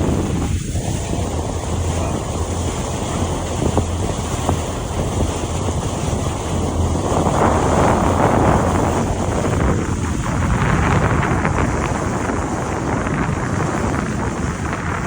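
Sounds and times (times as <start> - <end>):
boat engine idling: 0.0 - 15.0
wind buffeting microphone: 0.0 - 15.0.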